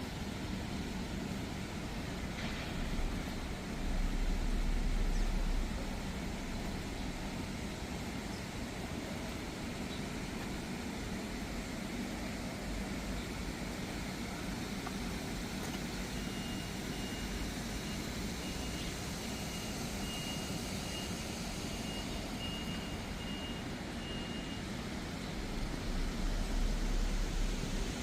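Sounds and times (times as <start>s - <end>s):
low vehicle rumble: 0.0s - 17.0s, 22.2s - 28.0s
city street noise: 0.0s - 28.0s.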